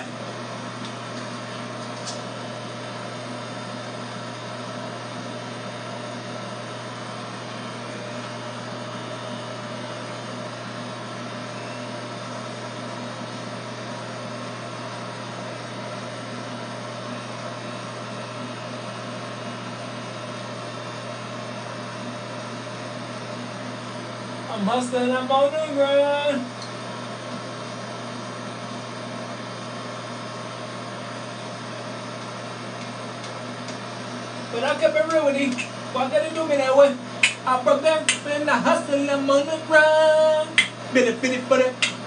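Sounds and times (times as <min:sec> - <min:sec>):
electric hair clippers buzzing: 0:00.0 - 0:18.8, 0:22.4 - 0:27.8, 0:30.9 - 0:42.0.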